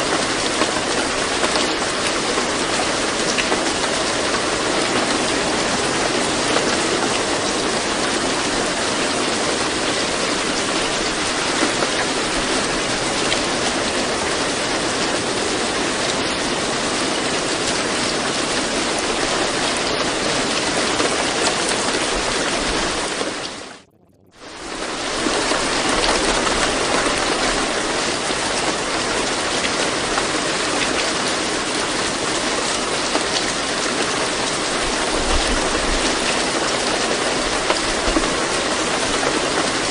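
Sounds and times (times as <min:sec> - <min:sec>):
steady rain: 0:00.0 - 0:23.8, 0:24.4 - 0:39.9.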